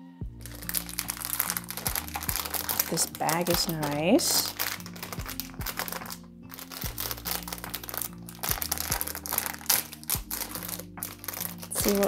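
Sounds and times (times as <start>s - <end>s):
soft background music: 0.0s - 12.0s
foil bag crinkling: 0.4s - 12.0s.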